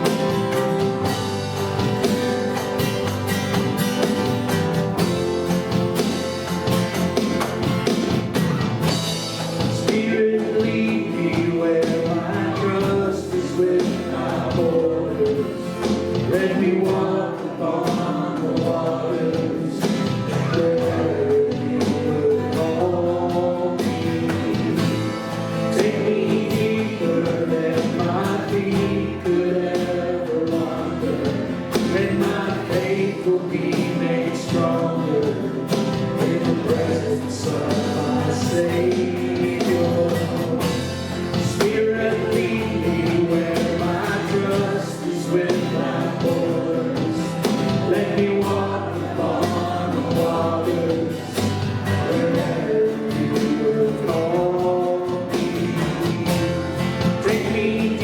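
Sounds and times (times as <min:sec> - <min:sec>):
live band with guitar: 0:00.0 - 0:58.0
people singing worship song: 0:00.0 - 0:58.0.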